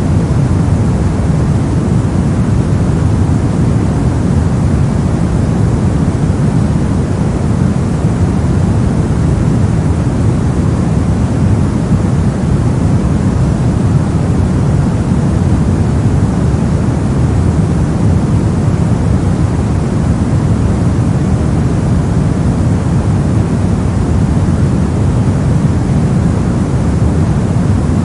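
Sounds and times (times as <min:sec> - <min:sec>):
deep rumbling brown noise: 0:00.0 - 0:28.0.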